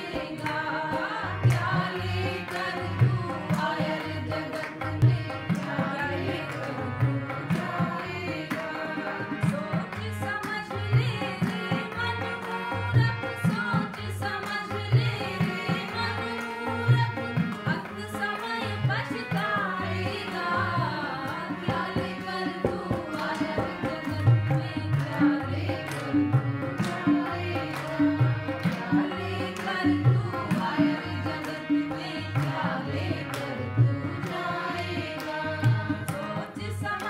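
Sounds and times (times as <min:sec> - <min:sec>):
group singing devotional song: 0:00.0 - 0:37.0.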